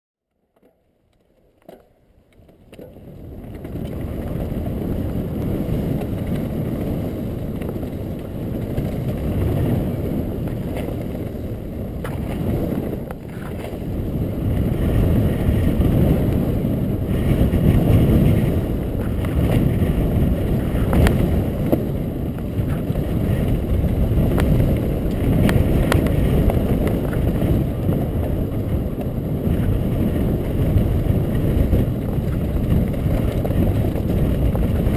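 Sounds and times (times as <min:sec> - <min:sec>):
bike knocking and rattling on stones: 0:00.5 - 0:34.9
wind and tyre rumble: 0:00.6 - 0:34.9.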